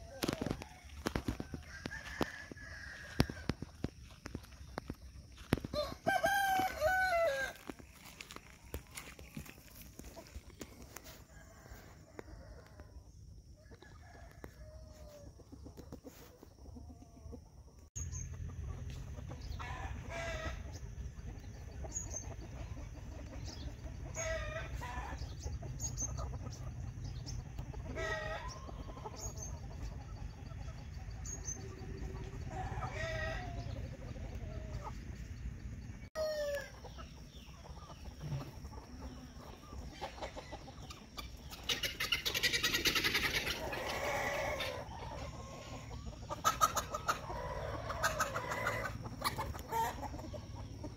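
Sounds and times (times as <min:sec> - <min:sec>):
roosters crowing: 0:00.0 - 0:04.2, 0:05.3 - 0:15.4, 0:19.4 - 0:20.8, 0:23.3 - 0:36.8, 0:38.2 - 0:50.9
hens calling and clucking: 0:00.0 - 0:50.9.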